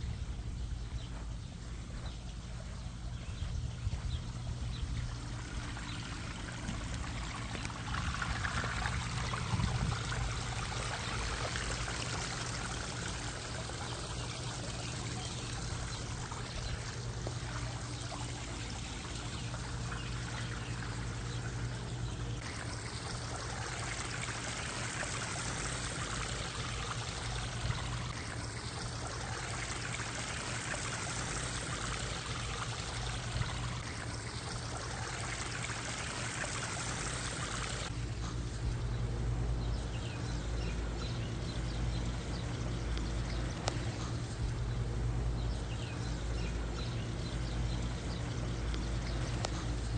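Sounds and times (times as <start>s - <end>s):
steady low hum: 0.0s - 49.9s
water trickling and splashing: 0.0s - 49.9s.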